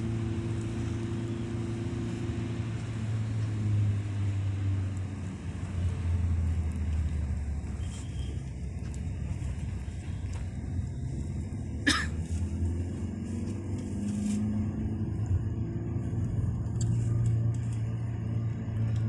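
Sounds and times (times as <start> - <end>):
road noise hiss: 0.0 - 19.0
vehicle engine running: 0.0 - 19.0.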